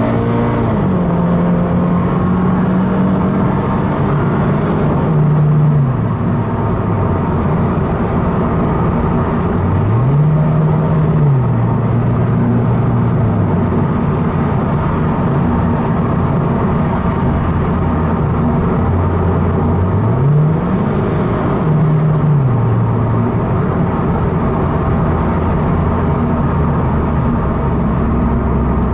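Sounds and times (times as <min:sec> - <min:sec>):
car engine drone from inside: 0:00.0 - 0:28.9.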